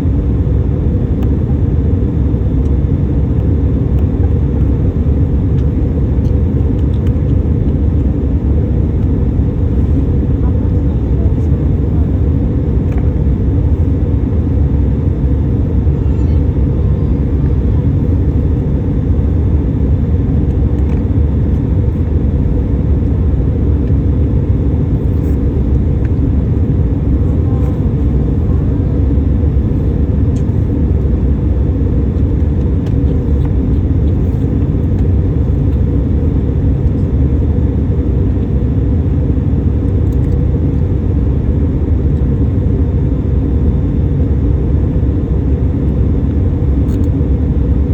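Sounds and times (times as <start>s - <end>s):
airplane engines rumbling: 0.0s - 47.9s.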